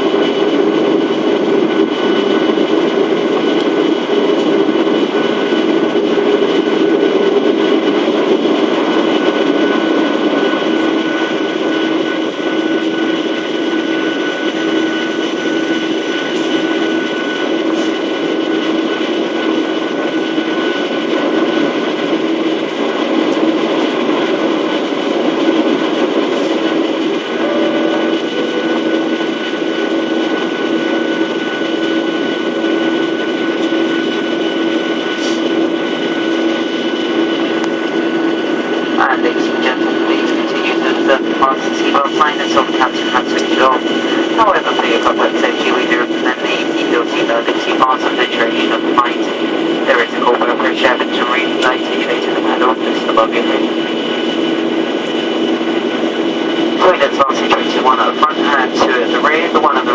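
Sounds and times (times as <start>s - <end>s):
jet engines droning: 0.0s - 59.9s
low hum: 0.0s - 59.9s
faint whining tones: 8.7s - 59.9s.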